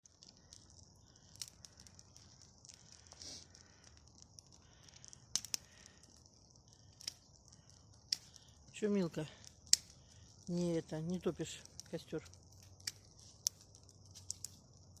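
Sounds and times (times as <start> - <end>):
damp wood bonfire burning: 0.0 - 15.0
sharp pops and cracks: 0.0 - 15.0.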